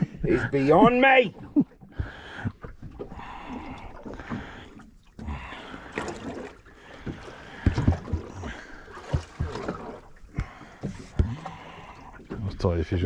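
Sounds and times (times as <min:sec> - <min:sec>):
water washing against hull: 0:00.0 - 0:13.0
knocks and thumps on boat: 0:00.8 - 0:12.7.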